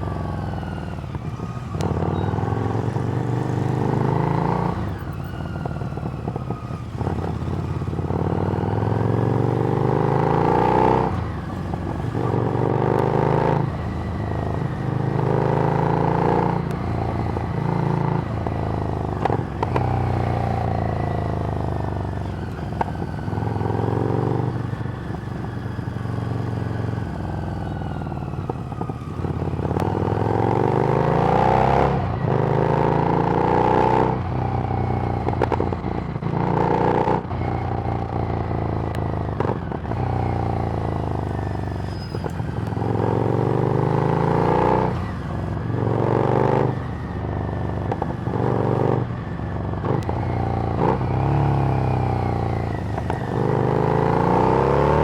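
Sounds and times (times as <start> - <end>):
motorcycle engine revving through gears: 0.0 - 55.0.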